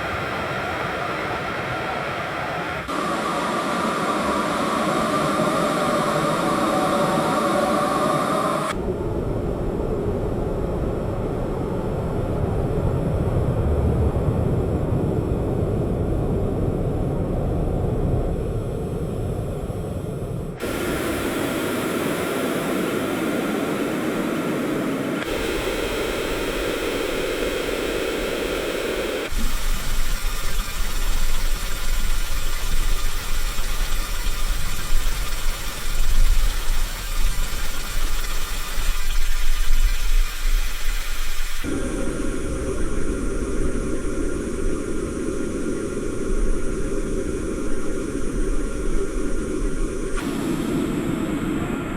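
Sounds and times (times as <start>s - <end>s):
steady hum and hiss: 2.8s - 12.9s, 17.8s - 51.9s.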